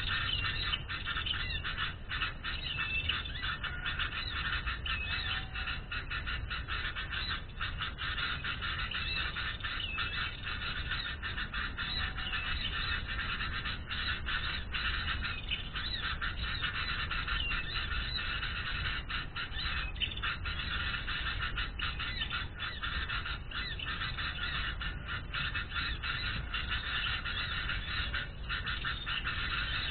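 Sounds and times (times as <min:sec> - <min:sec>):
birds chirping and twittering: 0:00.0 - 0:29.9.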